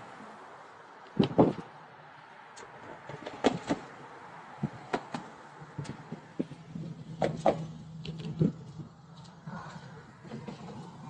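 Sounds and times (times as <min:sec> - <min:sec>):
road traffic hiss: 0:00.0 - 0:11.0
vehicle engine hum: 0:00.0 - 0:11.0.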